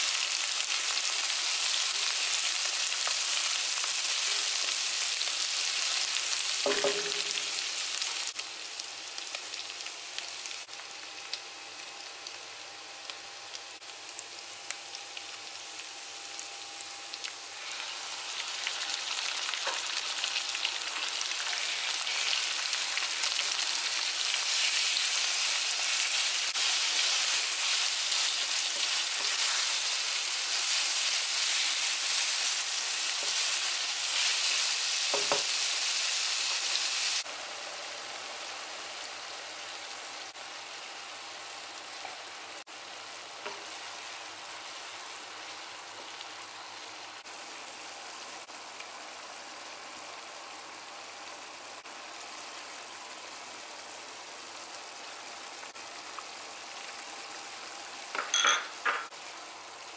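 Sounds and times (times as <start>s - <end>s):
meat sizzling in a wok: 0.0s - 59.9s.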